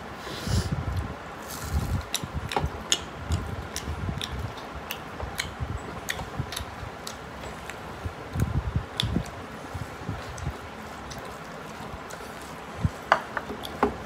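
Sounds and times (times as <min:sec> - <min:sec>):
chewing with mouth clicks: 0:01.6 - 0:13.8.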